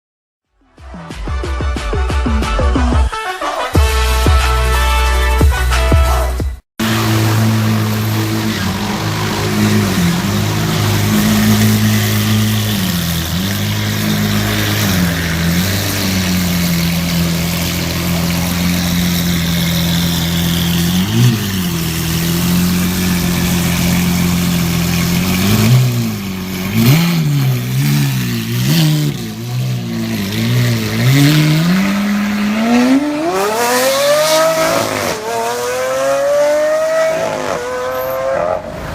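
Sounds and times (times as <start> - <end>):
sports car engine revving: 6.8 - 38.9.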